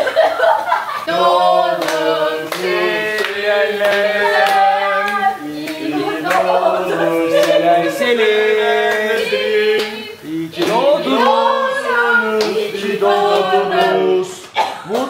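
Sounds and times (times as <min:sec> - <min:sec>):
group singing: 0:00.0 - 0:14.7
people clapping along: 0:00.0 - 0:15.0.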